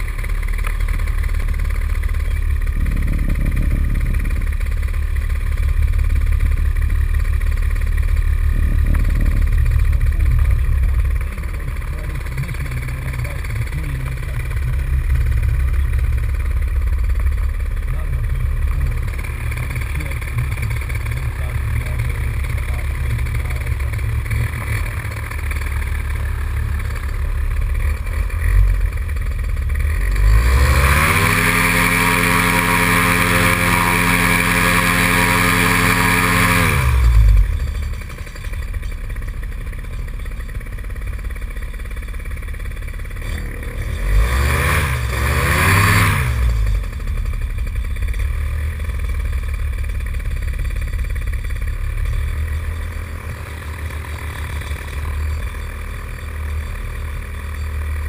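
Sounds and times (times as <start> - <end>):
paramotor engine revving: 0.0 - 58.0.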